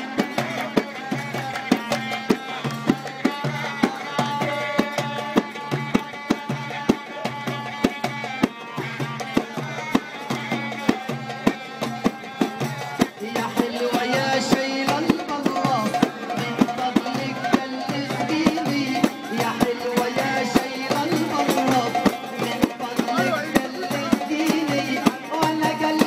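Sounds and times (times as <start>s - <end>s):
frame drums beating: 0.0s - 26.0s.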